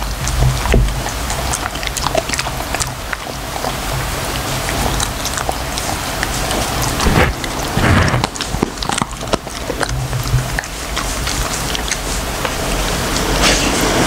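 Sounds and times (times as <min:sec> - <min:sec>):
dog crunching a bone treat: 0:00.0 - 0:14.0.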